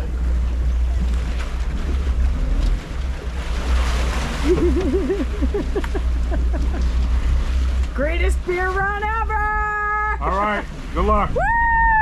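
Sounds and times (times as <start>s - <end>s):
water around boats: 0.0s - 12.0s
wind: 0.0s - 12.0s.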